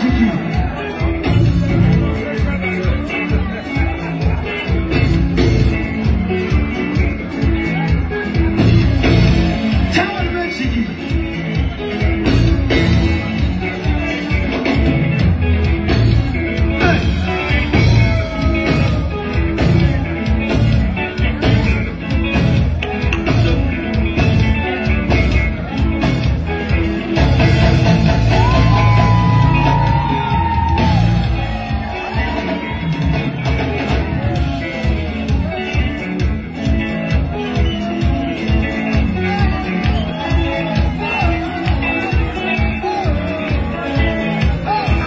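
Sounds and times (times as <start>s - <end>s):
live band through pa: 0.0s - 45.0s.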